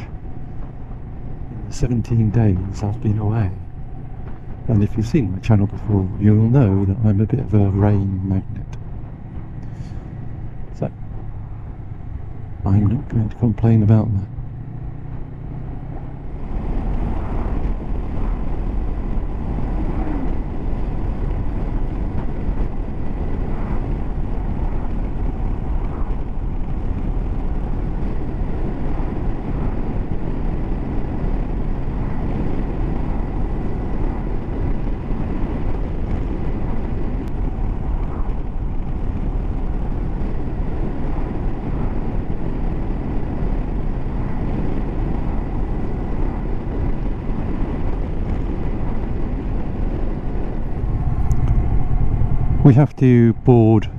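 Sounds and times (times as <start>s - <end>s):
road and engine rumble: 0.0s - 53.9s
wind rushing on microphone: 0.0s - 53.9s.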